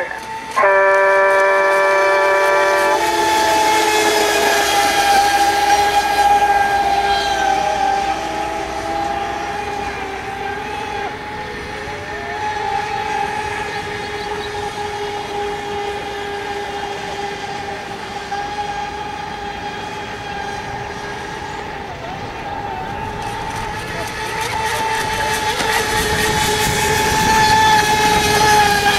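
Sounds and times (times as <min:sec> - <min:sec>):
rc boat motors droning: 0:00.0 - 0:28.9.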